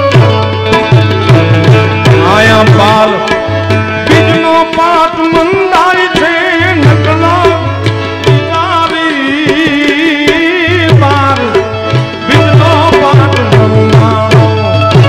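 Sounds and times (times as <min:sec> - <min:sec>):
harmonium melody: 0:00.0 - 0:15.0
tabla playing: 0:00.0 - 0:15.0.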